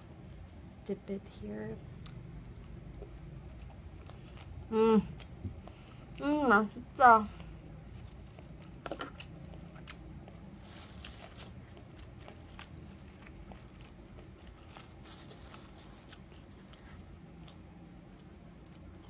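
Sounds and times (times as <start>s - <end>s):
person chewing food: 2.0s - 19.0s.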